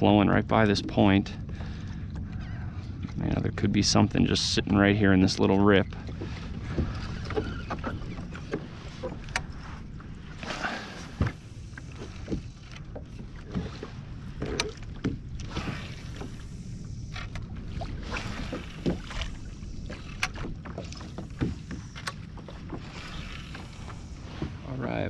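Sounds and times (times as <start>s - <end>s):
waves lapping against kayak hull: 0.0s - 25.0s.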